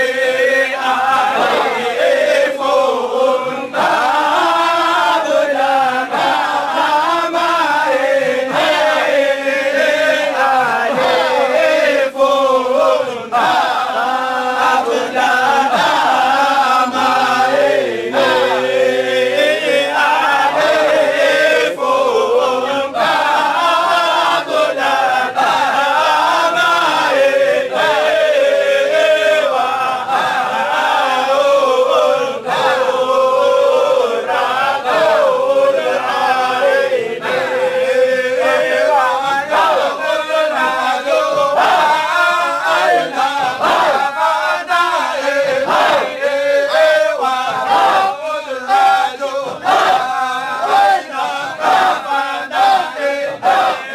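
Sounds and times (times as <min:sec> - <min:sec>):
men chanting in unison: 0:00.0 - 0:53.9.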